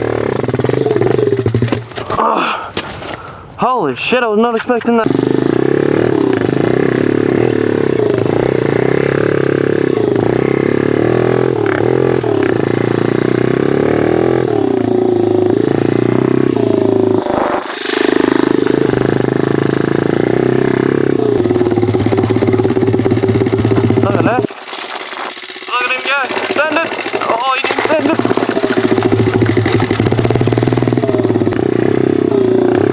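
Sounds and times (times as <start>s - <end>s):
motorbike engine revving: 0.0s - 2.4s, 5.0s - 32.9s.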